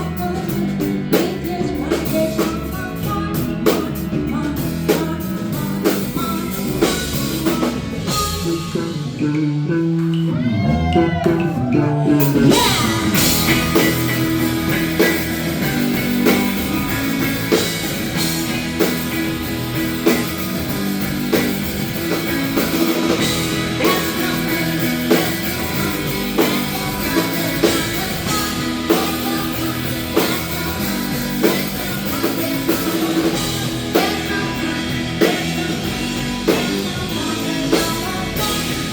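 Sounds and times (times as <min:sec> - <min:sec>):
drum kit: 0:00.0 - 0:38.9
electric guitar: 0:00.0 - 0:38.9
person singing: 0:00.0 - 0:38.9
rock band music: 0:00.0 - 0:38.9.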